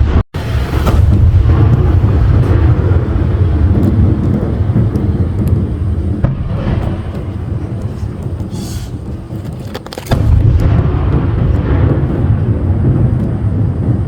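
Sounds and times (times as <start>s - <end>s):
faint fireworks crackling: 0.0s - 14.0s
fireworks bursts rumbling: 0.0s - 14.0s.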